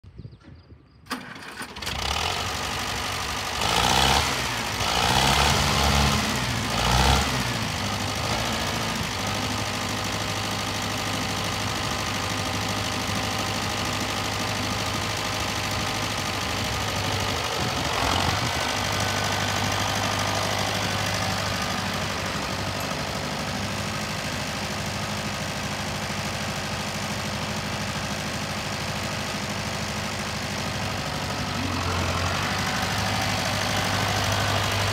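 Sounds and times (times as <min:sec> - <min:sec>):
tractor diesel engine revving: 0:01.1 - 0:34.9.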